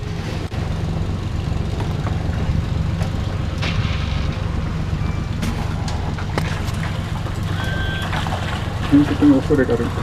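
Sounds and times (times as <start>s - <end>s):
outboard motor drone: 0.0s - 10.0s.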